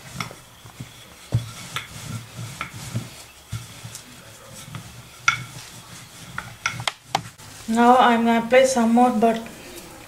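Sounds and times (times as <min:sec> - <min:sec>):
rolling pin rolling dough: 0:00.0 - 0:09.0.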